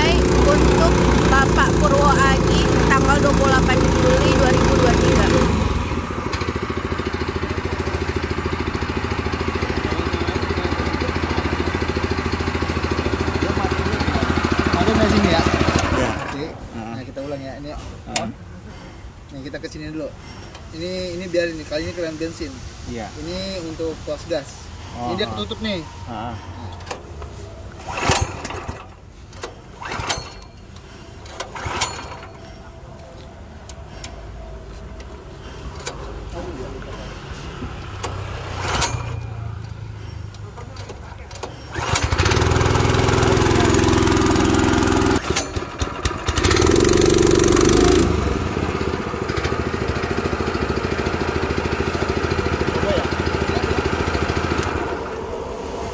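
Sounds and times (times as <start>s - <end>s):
roller engine chugging: 0.0s - 22.2s, 24.5s - 55.9s.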